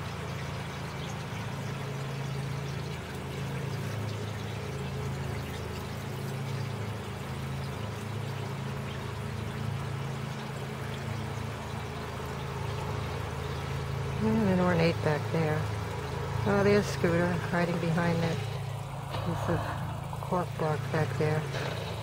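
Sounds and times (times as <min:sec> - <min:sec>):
low machinery drone: 0:00.0 - 0:22.0
small waterfall trickling: 0:00.0 - 0:22.0.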